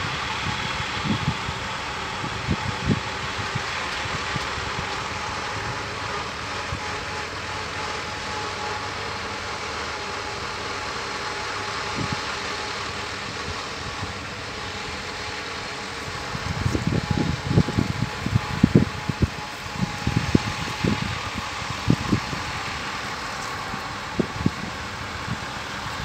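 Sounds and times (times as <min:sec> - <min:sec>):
excavator diesel engine idling: 0:00.0 - 0:26.0.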